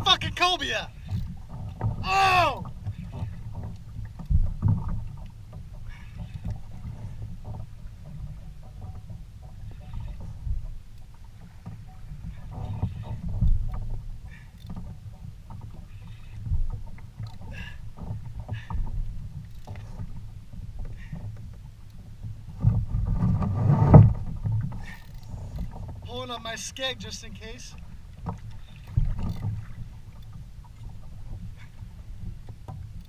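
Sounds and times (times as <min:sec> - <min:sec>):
water on hull: 0:00.0 - 0:33.0
wind: 0:00.0 - 0:33.0.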